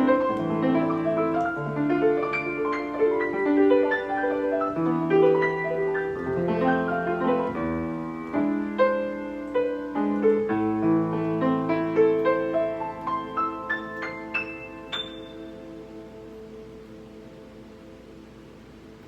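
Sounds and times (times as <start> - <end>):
piano playing: 0.0 - 19.0.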